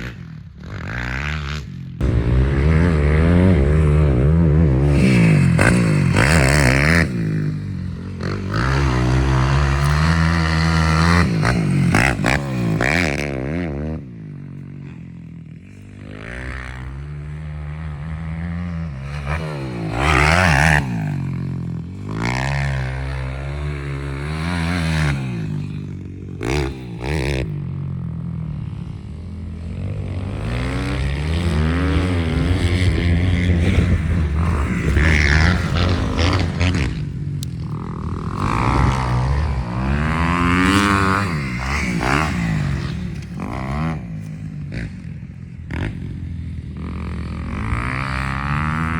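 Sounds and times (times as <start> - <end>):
motocross engines revving: 0.0 - 48.9.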